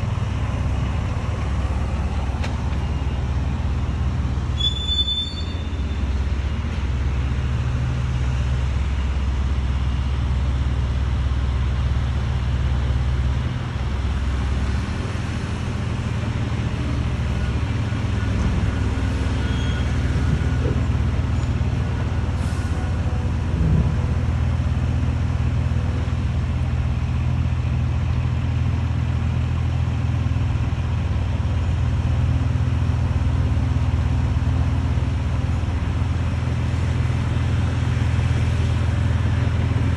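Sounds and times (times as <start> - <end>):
diesel engines humming: 0.0 - 39.9.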